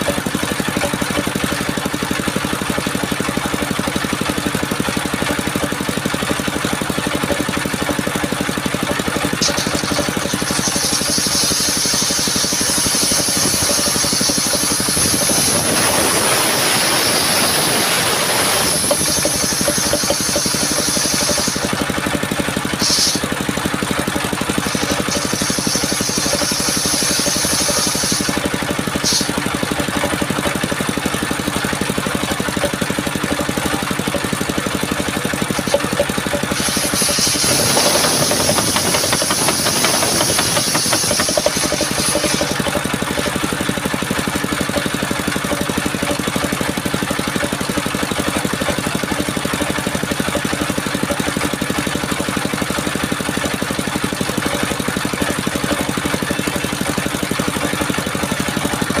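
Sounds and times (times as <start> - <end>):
saw blade whining through wood: 0.0 - 59.0
sawmill engine running: 0.0 - 59.0.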